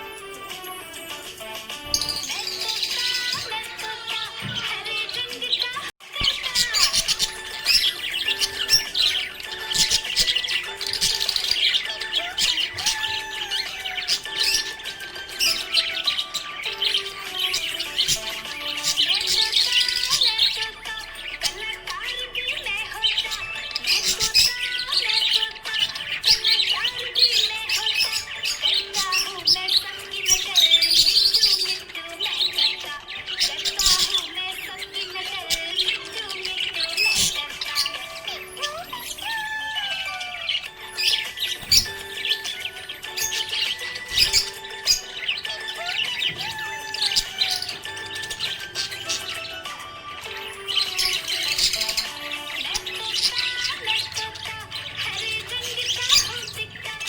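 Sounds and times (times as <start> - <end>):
background music: 0.0 - 57.0
budgerigars chirping: 1.1 - 57.0.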